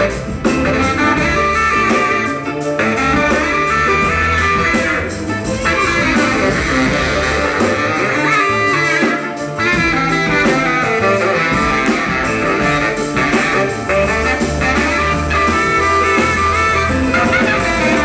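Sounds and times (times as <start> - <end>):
brass horn section: 0.0 - 18.0
guitar: 0.0 - 18.0
live soul band: 0.0 - 18.0.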